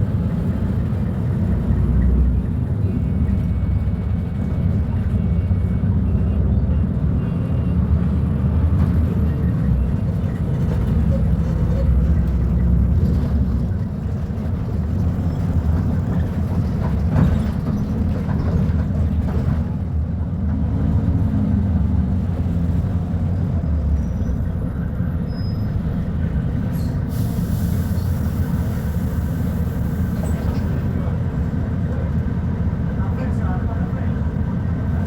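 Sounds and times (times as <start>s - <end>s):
bus engine rumbling: 0.0s - 35.0s.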